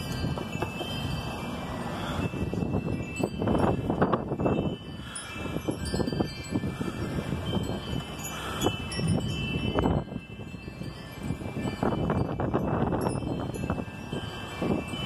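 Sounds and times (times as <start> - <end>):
metal wind chimes ringing: 0.0 - 15.0
wind gusting over microphone: 0.0 - 15.0.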